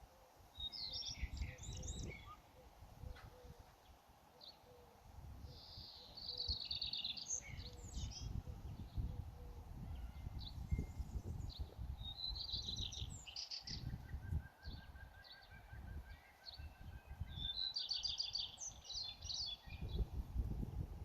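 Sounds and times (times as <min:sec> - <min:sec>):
songbirds singing: 0:00.0 - 0:20.8.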